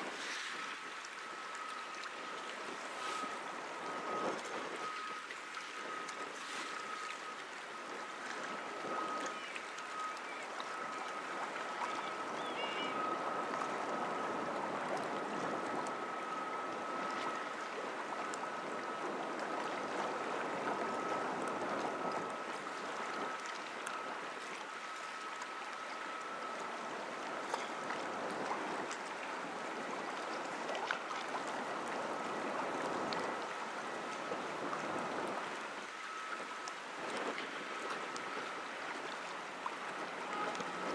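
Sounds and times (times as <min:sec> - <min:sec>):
river water sloshing and lapping: 0:00.0 - 0:40.9.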